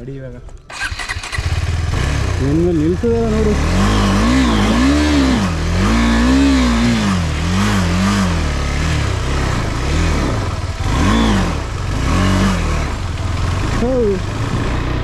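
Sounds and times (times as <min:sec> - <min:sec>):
motorcycle engine revving: 0:00.7 - 0:15.0.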